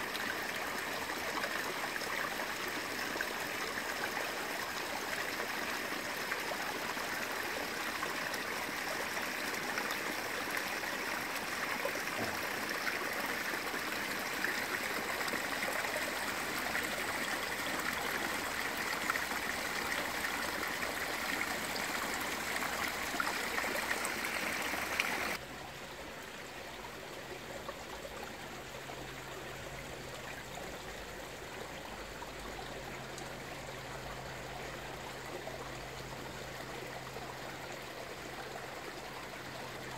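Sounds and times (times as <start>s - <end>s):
water splashing and trickling: 0.0s - 39.9s.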